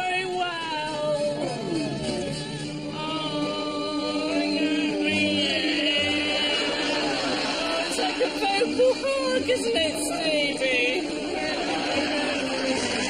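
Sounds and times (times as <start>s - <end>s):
woman singing long notes: 0.0s - 12.8s
music: 0.0s - 13.0s.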